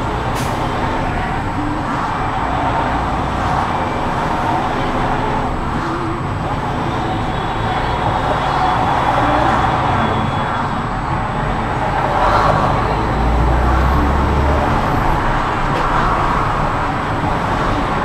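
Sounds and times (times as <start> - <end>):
highway traffic noise: 0.0 - 18.0.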